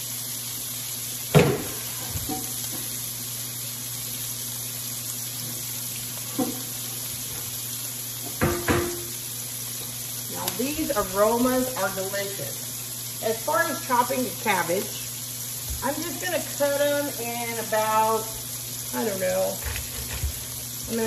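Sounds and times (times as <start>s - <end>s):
food sizzling in a skillet: 0.0s - 21.0s.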